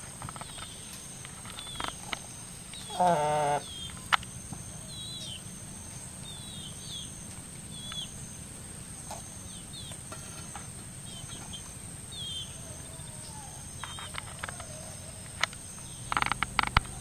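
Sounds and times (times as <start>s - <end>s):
insect drone: 0.0s - 17.0s
small bird chirping: 0.2s - 8.3s, 9.1s - 17.0s.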